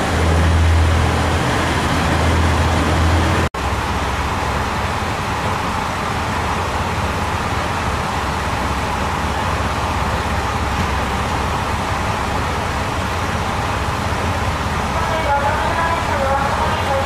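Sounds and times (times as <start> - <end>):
diesel railcar engine rumble: 0.0 - 17.0.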